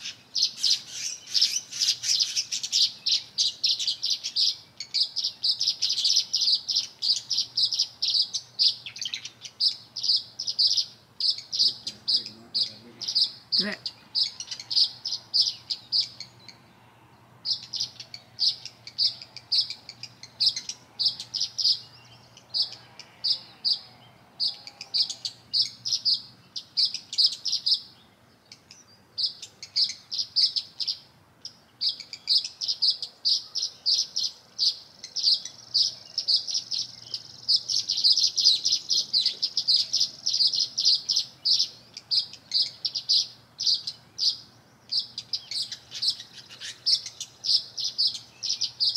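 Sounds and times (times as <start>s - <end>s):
songbirds chirping: 0.0s - 48.9s.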